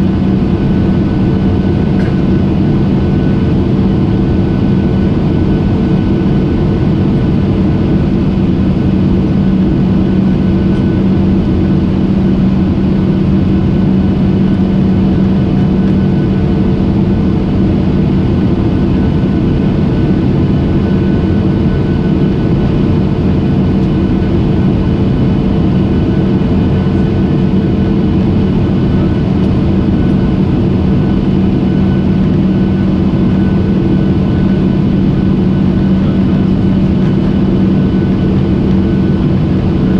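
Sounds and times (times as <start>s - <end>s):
airplane engines droning: 0.0s - 39.9s.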